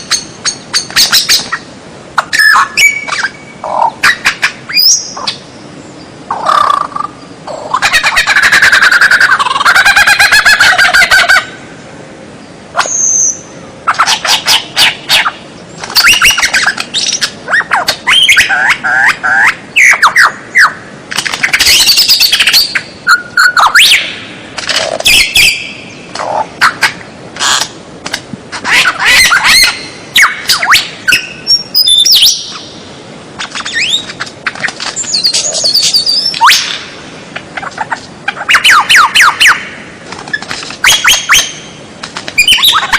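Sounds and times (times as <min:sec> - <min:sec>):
bird singing varied song: 0:00.0 - 0:11.6, 0:12.4 - 0:24.3, 0:24.9 - 0:27.7, 0:28.7 - 0:37.0, 0:38.3 - 0:42.9.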